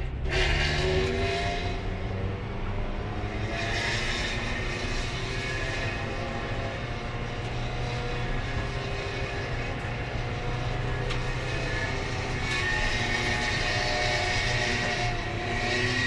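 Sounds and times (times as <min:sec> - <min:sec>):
race car engine running: 0:00.0 - 0:16.0.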